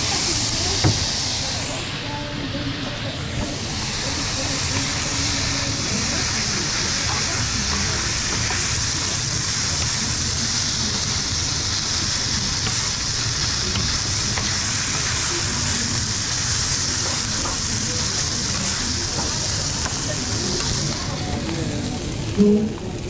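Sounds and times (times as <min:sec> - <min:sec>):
food sizzling on griddle: 0:00.0 - 0:23.0.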